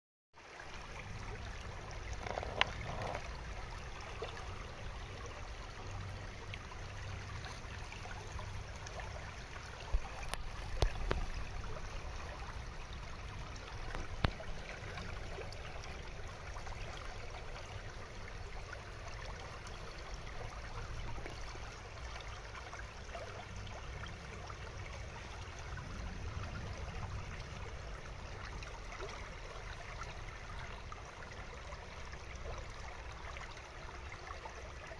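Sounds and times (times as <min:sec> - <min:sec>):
stream running over stones: 0:00.4 - 0:34.9.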